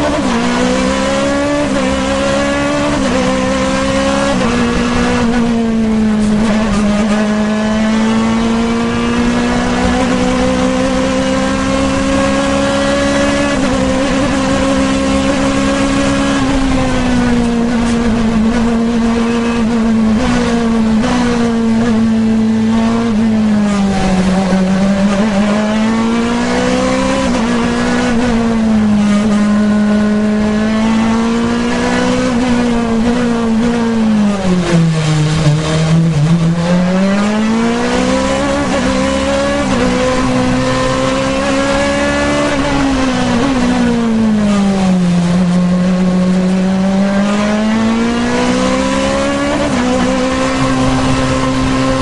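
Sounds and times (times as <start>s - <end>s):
racing car engine at high revs: 0.0s - 52.0s.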